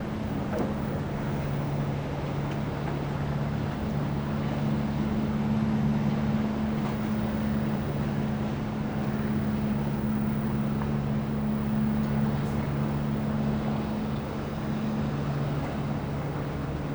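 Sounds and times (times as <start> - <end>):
wind: 0.0 - 16.9.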